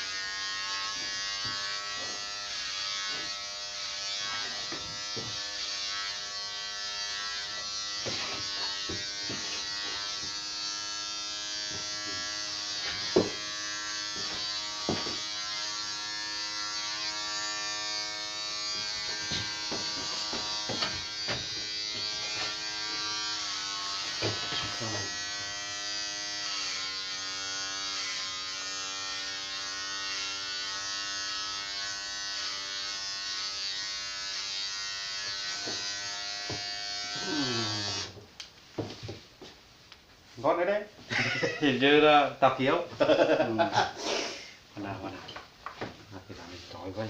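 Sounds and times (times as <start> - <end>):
electric hair clippers buzzing: 0.0 - 38.2.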